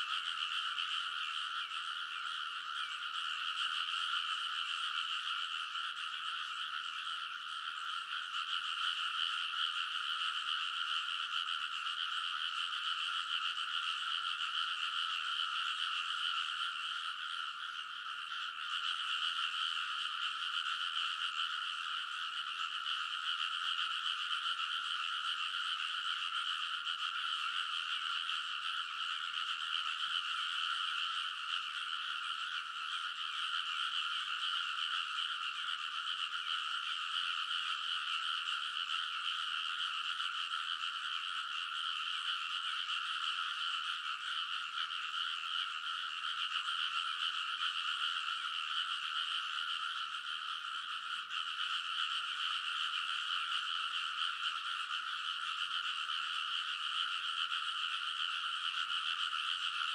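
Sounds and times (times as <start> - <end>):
frogs croaking in chorus: 0.0 - 59.9.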